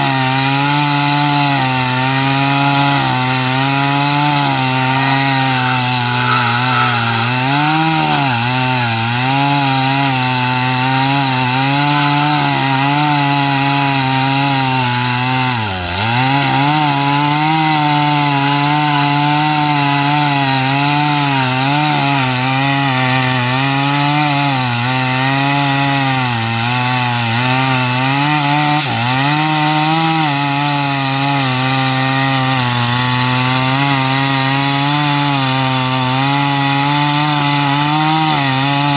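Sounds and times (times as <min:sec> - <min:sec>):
chainsaw running hard: 0:00.0 - 0:38.9.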